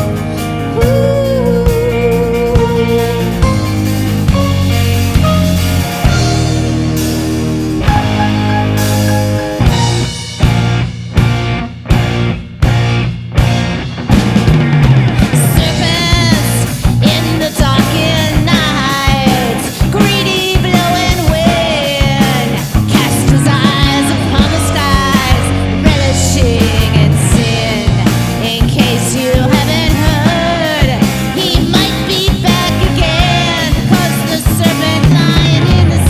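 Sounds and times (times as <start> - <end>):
lead guitar melody with bends: 0.0 - 36.0
rock band playing: 0.0 - 36.0.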